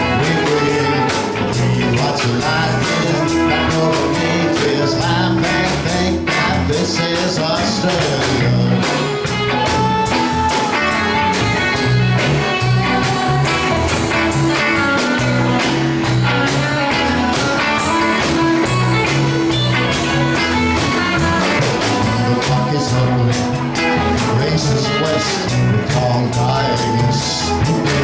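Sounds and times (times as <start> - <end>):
bass notes: 0.0 - 28.0
electric guitar: 0.0 - 28.0.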